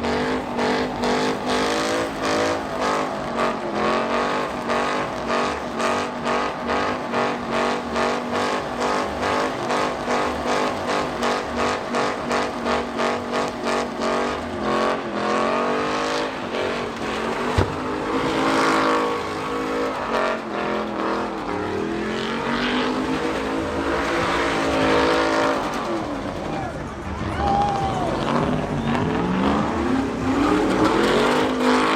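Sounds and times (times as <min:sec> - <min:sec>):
tire squeal: 0:00.0 - 0:31.9
truck engine revving: 0:00.0 - 0:31.9.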